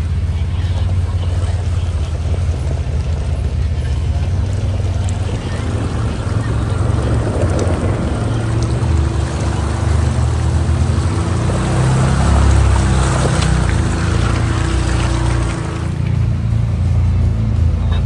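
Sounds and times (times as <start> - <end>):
utility vehicle engine rumbling: 0.0 - 18.0.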